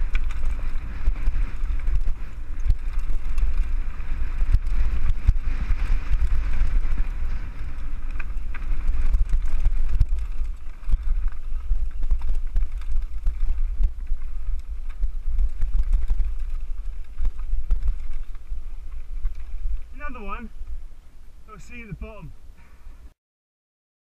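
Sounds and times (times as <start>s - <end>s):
bike rattling over bumps: 0.0s - 21.5s
wind buffeting microphone: 0.0s - 23.1s.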